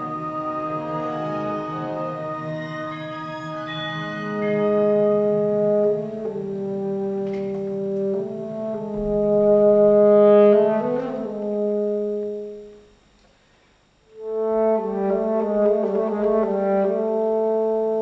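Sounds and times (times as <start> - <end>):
orchestra playing held chords: 0.0 - 12.9, 14.1 - 18.0.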